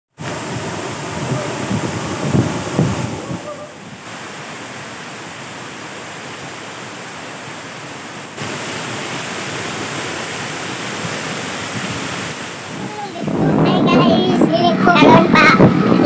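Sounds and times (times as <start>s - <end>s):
waterfall rushing: 0.1s - 16.0s.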